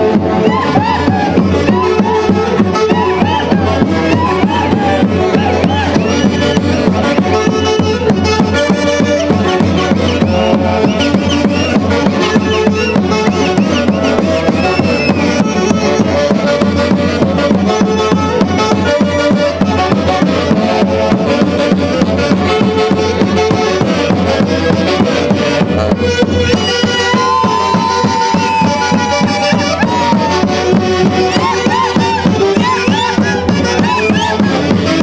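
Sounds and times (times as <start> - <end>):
steady drum beat: 0.0 - 35.0
traditional dance music: 0.0 - 35.0.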